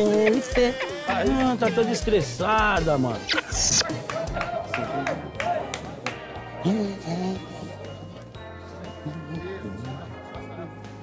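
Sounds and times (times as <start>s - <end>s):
background music with bass line: 0.0s - 11.0s.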